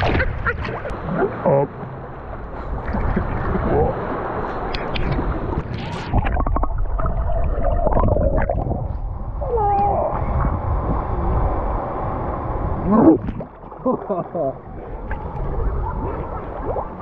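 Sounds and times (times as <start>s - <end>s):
water sloshing and bubbling: 0.0s - 17.0s.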